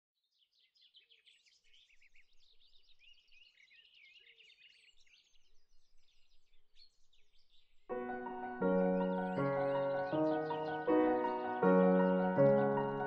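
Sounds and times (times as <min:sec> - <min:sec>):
small birds singing and chirping: 0:00.2 - 0:13.0.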